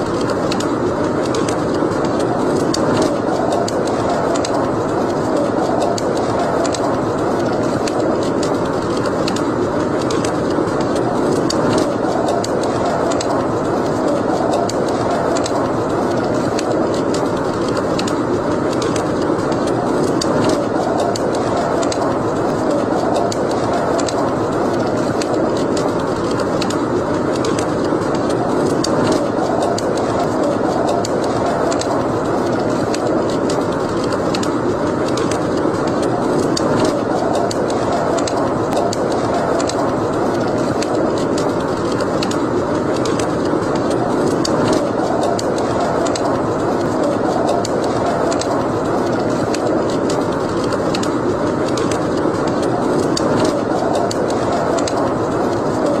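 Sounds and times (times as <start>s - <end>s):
fire crackles and pops: 0.0s - 56.0s
wood fire burning: 0.0s - 56.0s.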